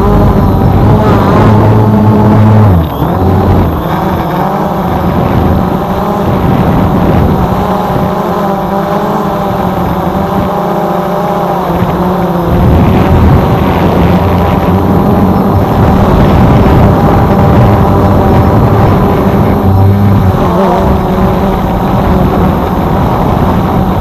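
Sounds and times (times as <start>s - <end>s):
drone propellers whirring: 0.0s - 24.0s.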